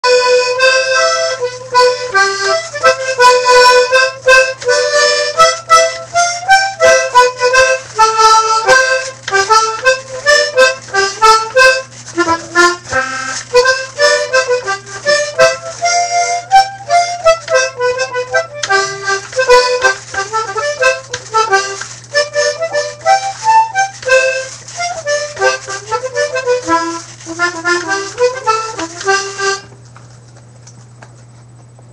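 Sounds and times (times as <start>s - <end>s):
accordion lively melody: 0.0s - 29.9s.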